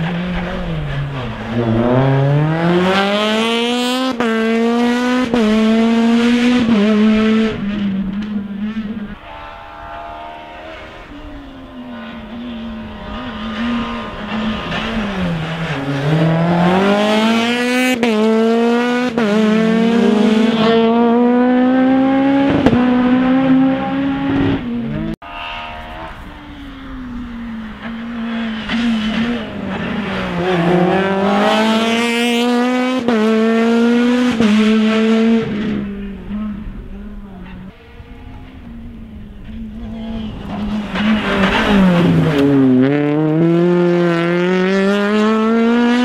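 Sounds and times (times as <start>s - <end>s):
rally car engine at full throttle: 0.0s - 46.0s.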